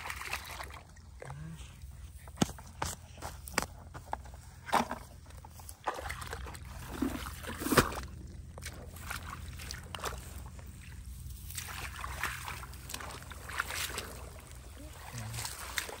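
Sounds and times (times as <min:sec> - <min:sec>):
splashing in muddy water: 0:00.0 - 0:03.6, 0:04.6 - 0:16.0.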